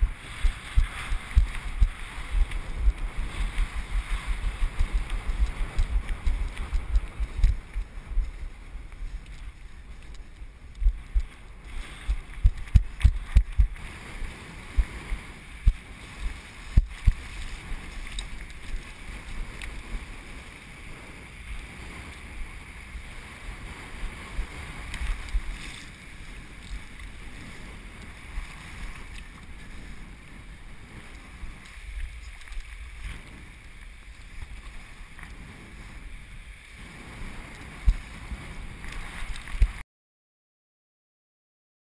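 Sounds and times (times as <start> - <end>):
wind buffeting microphone: 0.0 - 39.8.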